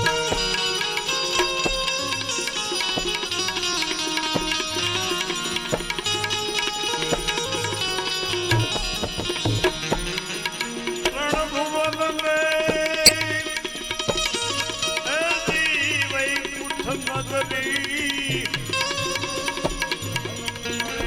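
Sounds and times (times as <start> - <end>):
tabla rhythm: 0.0 - 21.0.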